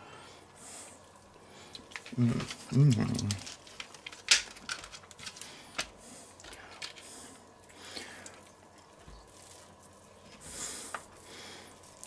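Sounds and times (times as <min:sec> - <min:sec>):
bacon squishing and rustling: 0:01.0 - 0:12.0.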